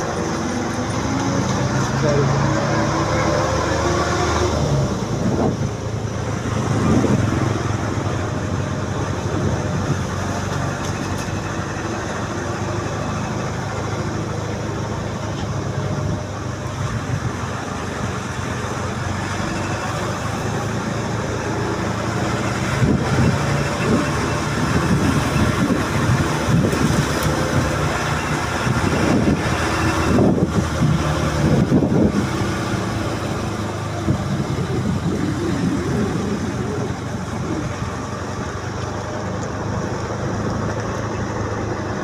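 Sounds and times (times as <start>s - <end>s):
combine harvester engine drone: 0.0s - 42.0s.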